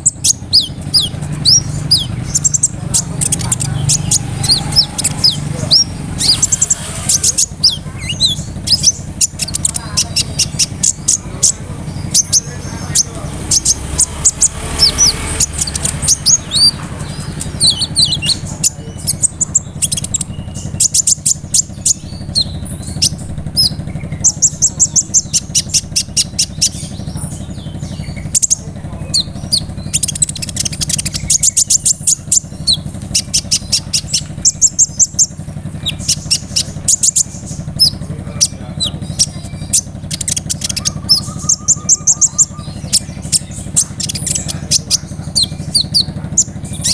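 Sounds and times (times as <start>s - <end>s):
bird singing high trills: 0.0s - 46.9s
steady low hum: 0.0s - 46.9s.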